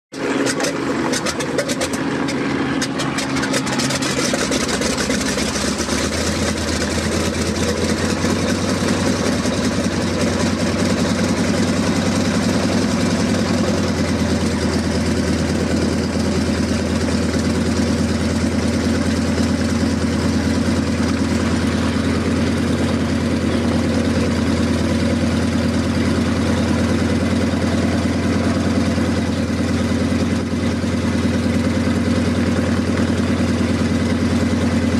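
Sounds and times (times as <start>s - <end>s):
plane radial engine idling: 0.1s - 34.9s.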